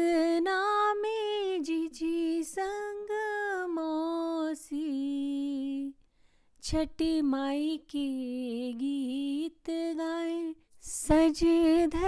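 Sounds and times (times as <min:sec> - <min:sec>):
woman singing folk song: 0:00.0 - 0:06.0, 0:06.6 - 0:12.0.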